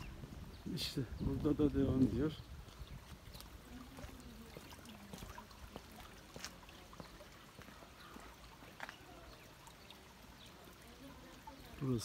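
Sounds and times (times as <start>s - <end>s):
water trickling in channel: 0.0s - 12.0s.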